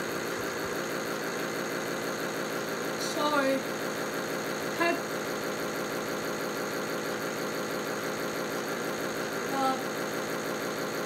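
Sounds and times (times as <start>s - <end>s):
small toy motor running: 0.0s - 11.0s.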